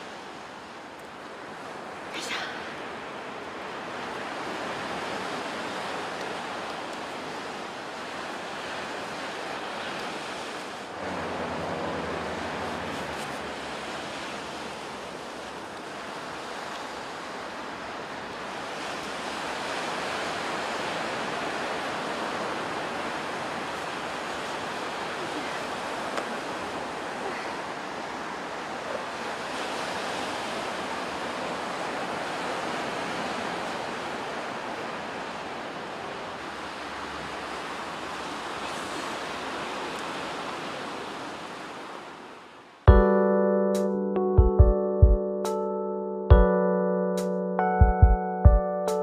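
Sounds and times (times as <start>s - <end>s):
ocean surf on sandy beach: 0.0s - 43.6s.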